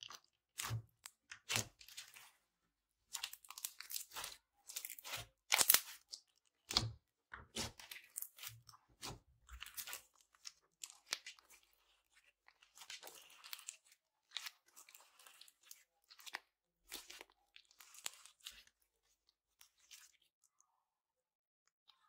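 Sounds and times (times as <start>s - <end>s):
slime squished by hand: 0.0s - 2.4s, 3.0s - 18.8s.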